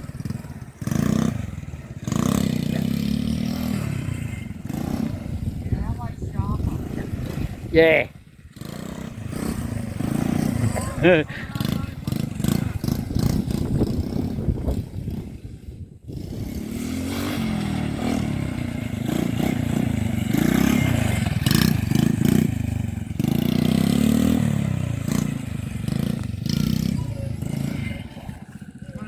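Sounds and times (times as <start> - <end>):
quad bike engine running: 0.0 - 29.0.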